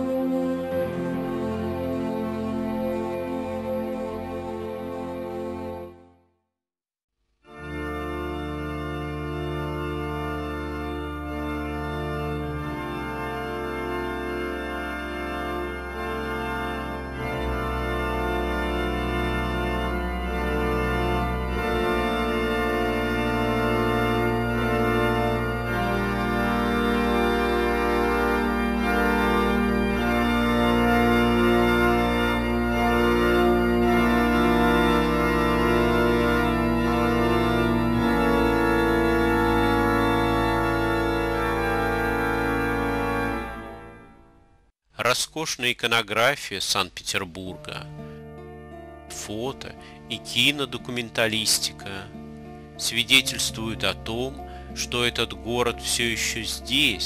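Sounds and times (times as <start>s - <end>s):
organ playing slow chords: 0.0s - 6.3s, 7.4s - 44.8s, 45.8s - 57.0s.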